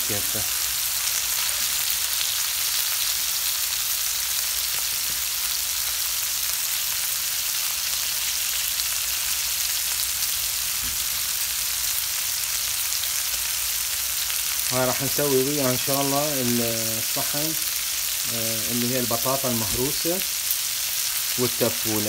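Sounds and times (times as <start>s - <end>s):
meat and onions sizzling in a pan: 0.0s - 22.0s.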